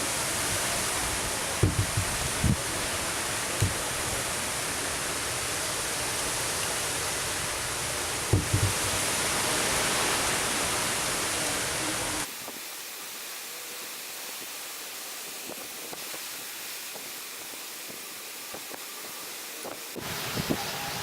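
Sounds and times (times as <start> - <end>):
wind and rain rushing: 0.0 - 21.0.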